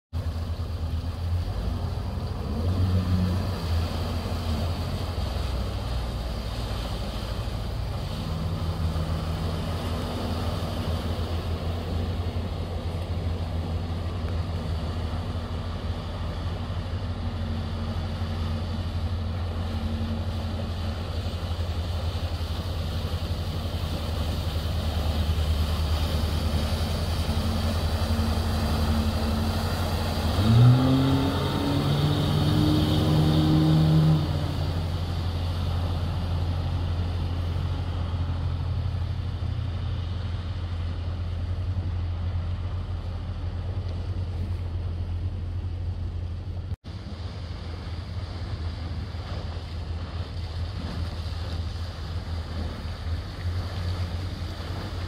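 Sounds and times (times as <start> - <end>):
outboard motor droning: 0.2 - 55.0.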